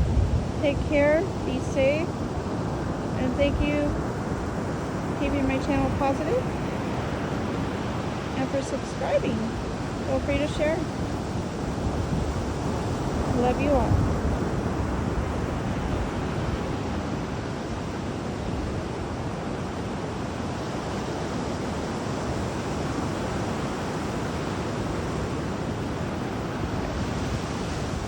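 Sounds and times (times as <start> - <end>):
ocean surf washing onto beach: 0.0 - 28.0.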